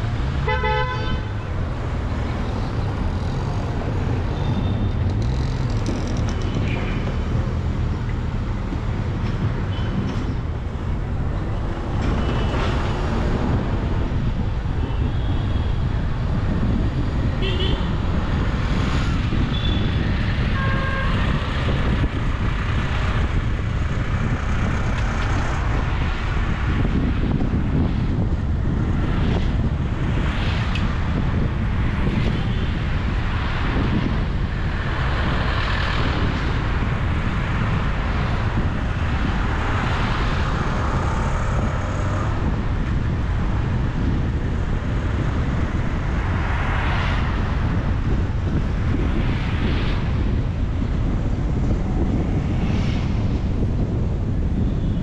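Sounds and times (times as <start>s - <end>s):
road and wind noise rumble: 0.0s - 55.0s
vehicles passing: 0.0s - 55.0s.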